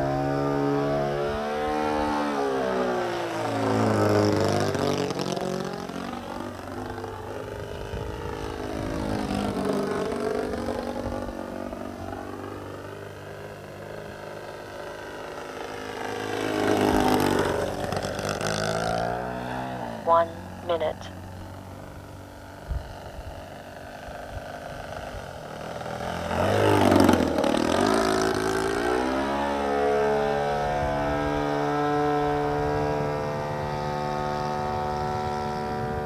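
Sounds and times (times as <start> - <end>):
model airplane motor and propeller: 0.0 - 36.0.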